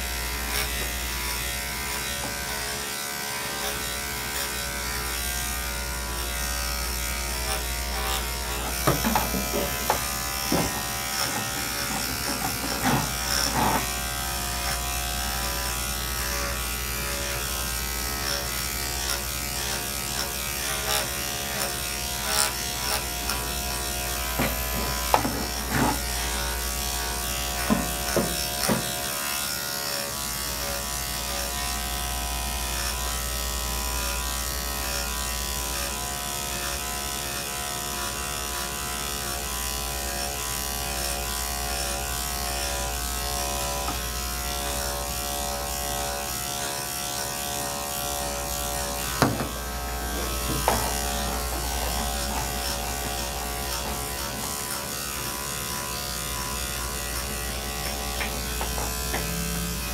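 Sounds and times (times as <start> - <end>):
electric clipper running: 0.0 - 59.9.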